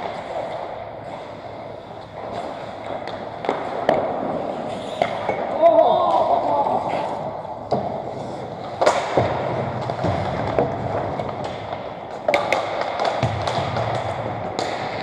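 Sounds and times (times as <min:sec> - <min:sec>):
hockey sticks and puck clacking: 0:00.0 - 0:15.0
skates scraping on ice: 0:00.0 - 0:15.0.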